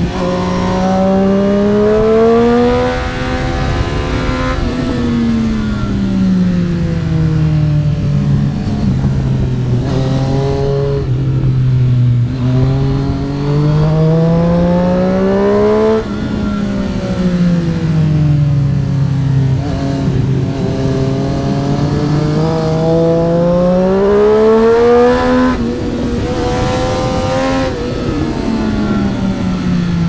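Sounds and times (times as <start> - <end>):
motorcycle engine: 0.0 - 30.0.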